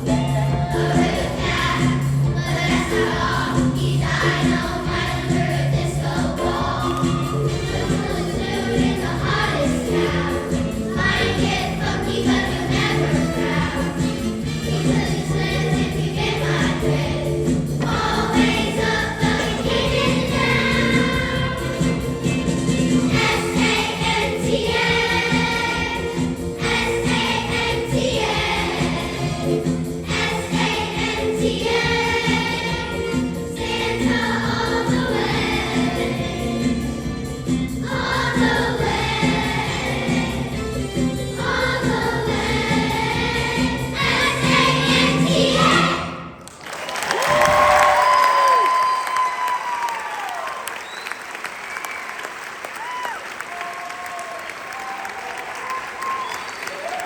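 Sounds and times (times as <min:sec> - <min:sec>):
choir singing: 0:00.0 - 0:46.4.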